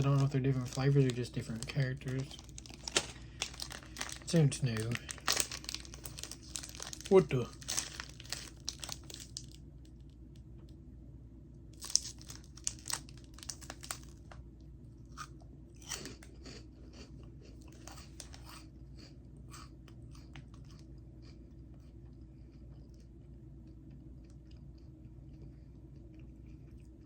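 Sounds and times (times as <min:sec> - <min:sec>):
crunchy snack chewing: 0:00.0 - 0:09.6, 0:11.8 - 0:14.4, 0:15.0 - 0:27.0.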